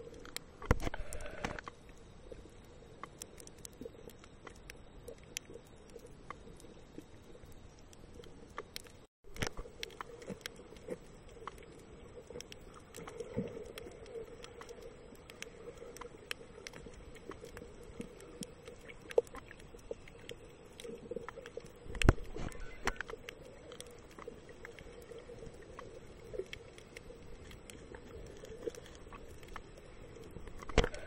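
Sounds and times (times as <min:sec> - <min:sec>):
faint steady hum: 0:00.0 - 0:31.0
underwater clicks and crackles: 0:00.0 - 0:31.0.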